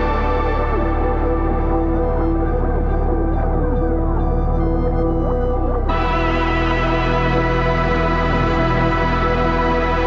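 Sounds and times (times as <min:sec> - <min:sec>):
music of sustained tones: 0:00.0 - 0:10.0.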